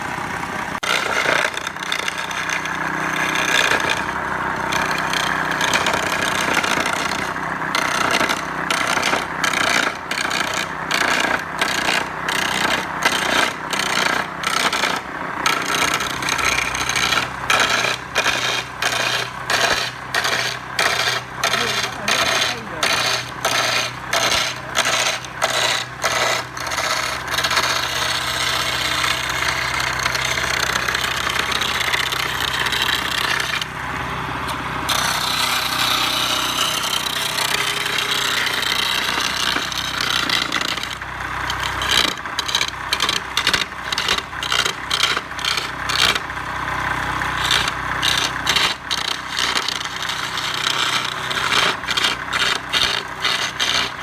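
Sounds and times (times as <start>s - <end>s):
steady machine hum: 0.0s - 54.0s
hand tool rasping wood: 0.8s - 33.7s, 34.5s - 54.0s.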